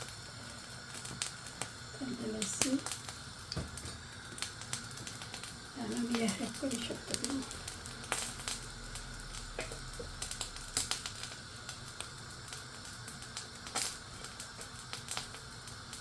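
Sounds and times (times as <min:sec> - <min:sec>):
faint steady hiss: 0:00.0 - 0:16.0
hot oil popping in pan: 0:00.0 - 0:16.0.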